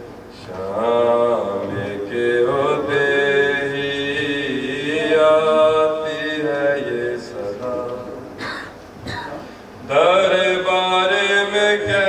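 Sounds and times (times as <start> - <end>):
man chanting into microphone: 0.4 - 8.3, 9.8 - 12.0.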